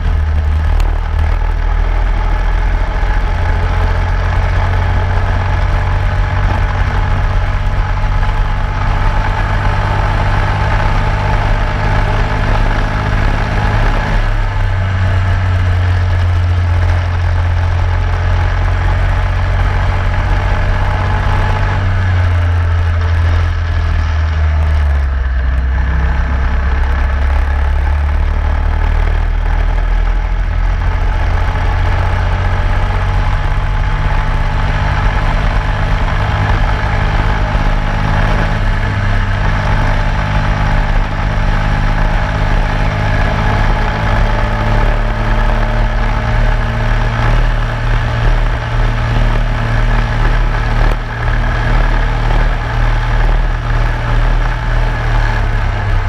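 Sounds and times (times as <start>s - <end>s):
kart engine running hard: 0.0s - 56.0s
steady rushing noise: 0.0s - 56.0s.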